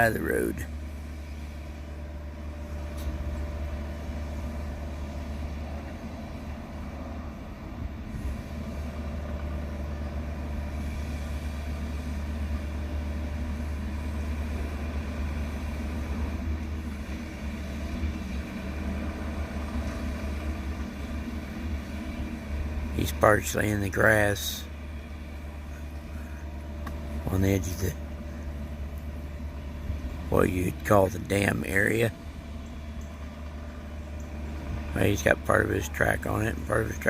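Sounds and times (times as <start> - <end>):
engine running drone: 0.0 - 37.0.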